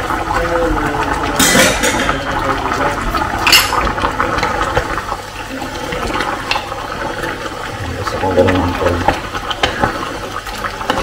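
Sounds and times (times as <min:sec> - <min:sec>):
sauce bubbling in a pot: 0:00.0 - 0:11.0.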